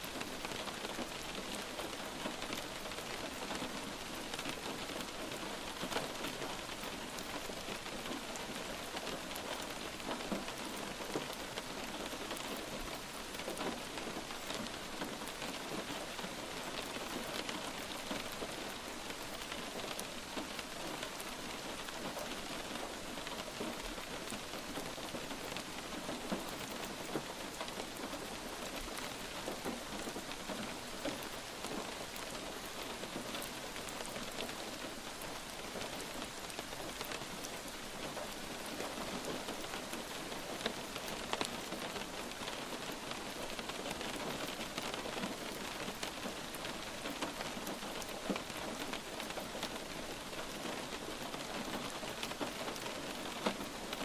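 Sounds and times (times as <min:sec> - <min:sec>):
light rain hiss: 0:00.0 - 0:54.0
raindrop ticks: 0:00.1 - 0:54.0.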